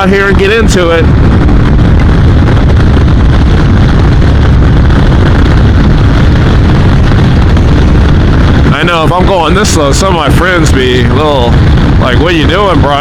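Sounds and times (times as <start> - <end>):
motorcycle engine rumbling: 0.0 - 13.0
wind noise: 0.0 - 13.0.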